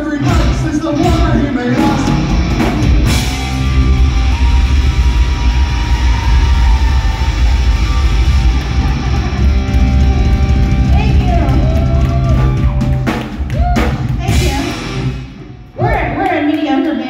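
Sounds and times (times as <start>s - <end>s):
heavy rock band playing: 0.0s - 16.1s.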